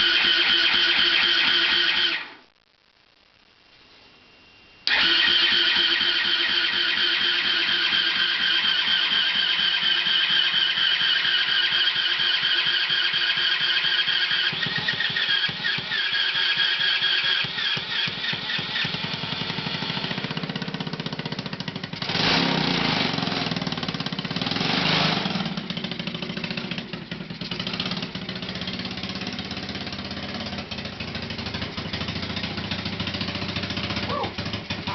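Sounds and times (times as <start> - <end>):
lawnmower engine running: 4.9 - 34.9.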